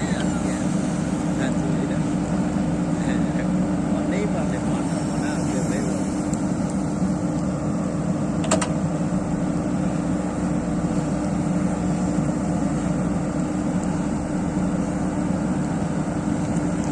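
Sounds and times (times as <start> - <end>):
diesel engine droning: 0.0 - 16.9.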